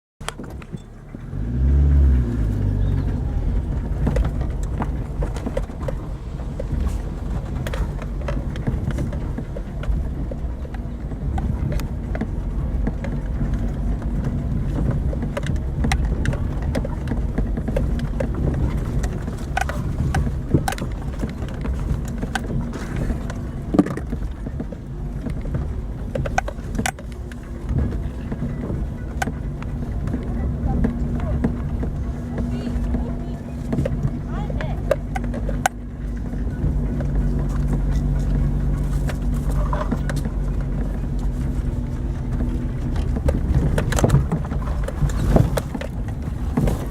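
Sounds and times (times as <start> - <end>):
car engine droning: 0.2 - 46.9
knocks and rattles: 0.2 - 46.9.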